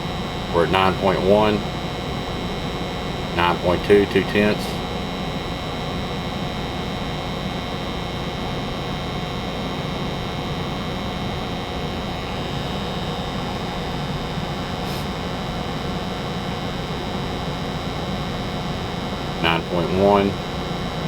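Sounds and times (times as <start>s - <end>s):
gas furnace blower humming: 0.0s - 21.0s.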